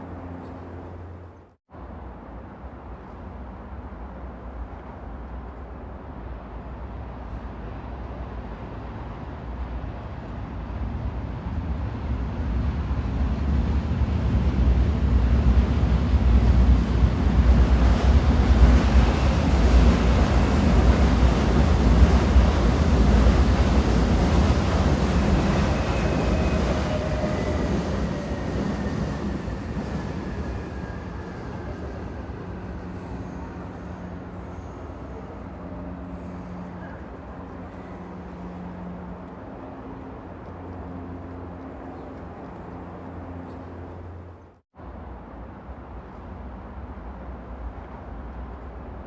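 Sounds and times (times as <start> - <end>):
train rumbling: 0.0 - 49.0.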